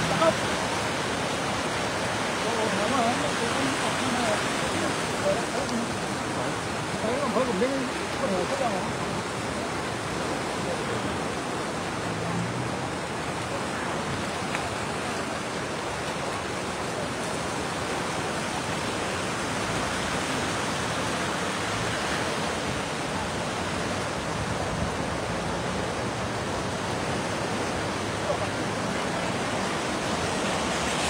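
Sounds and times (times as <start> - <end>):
fast-flowing river rushing: 0.0 - 31.0.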